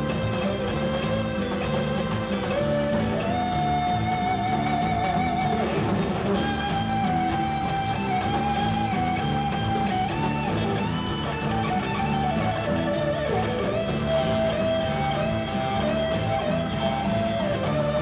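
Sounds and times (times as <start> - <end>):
electric guitar solo: 0.0 - 18.0
rock band playing: 0.0 - 18.0.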